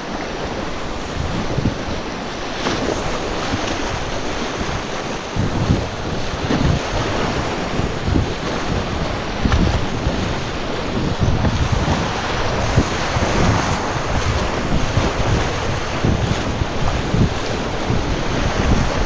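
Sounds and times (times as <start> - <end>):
whitewater rushing and splashing: 0.0 - 19.0
wind buffeting the microphone: 0.0 - 19.0.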